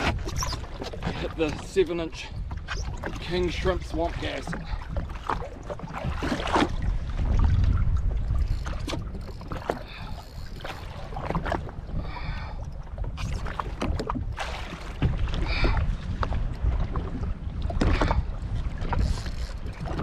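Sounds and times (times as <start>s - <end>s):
water slapping against hull: 0.0s - 20.0s
wind buffeting microphone: 0.0s - 20.0s.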